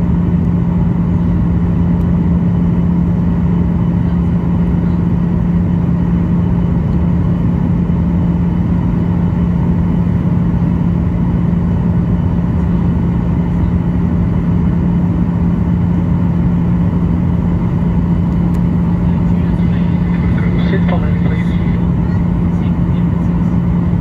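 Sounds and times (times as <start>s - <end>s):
airliner cabin engine roar: 0.0s - 24.0s.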